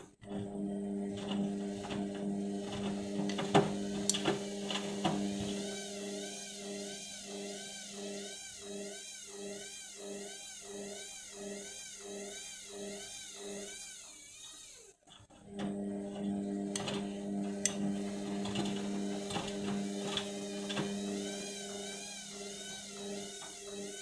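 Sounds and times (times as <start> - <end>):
washing machine motor humming: 0.0 - 14.5, 15.3 - 24.0
drum turning with wavering whine: 0.8 - 13.8, 15.6 - 24.0.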